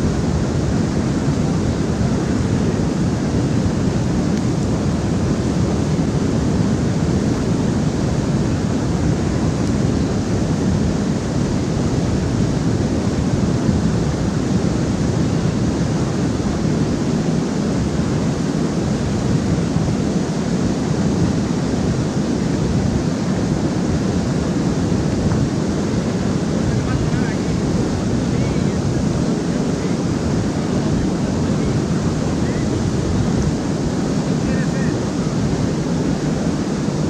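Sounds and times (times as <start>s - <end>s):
water rushing over dam: 0.0s - 37.0s.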